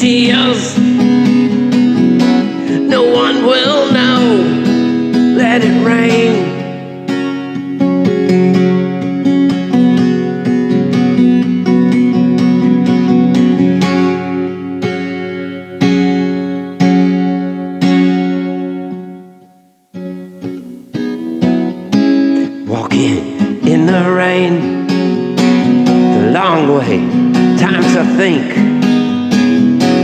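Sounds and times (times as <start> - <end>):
guitar strumming and plucking: 0.0 - 30.0.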